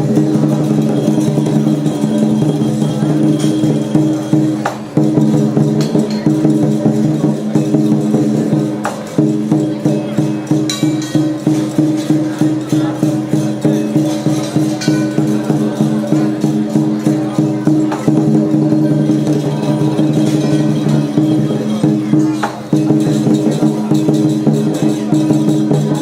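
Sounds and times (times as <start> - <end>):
cymbal clashes: 0.0 - 26.0
percussion music with steady beat: 0.0 - 26.0.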